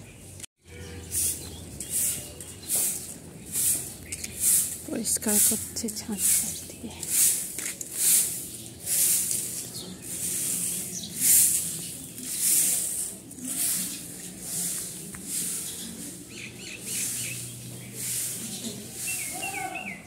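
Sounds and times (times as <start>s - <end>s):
broom swishing on ground: 0.9s - 20.0s.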